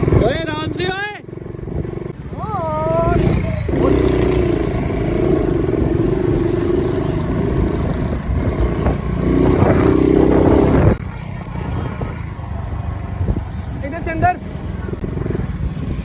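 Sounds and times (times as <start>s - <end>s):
wind and traffic rumble: 0.0s - 16.0s.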